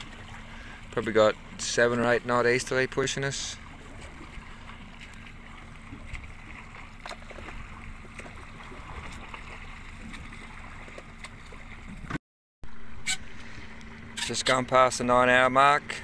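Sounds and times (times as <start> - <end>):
boat engine rumble: 0.0 - 16.0
water noise: 0.0 - 16.0.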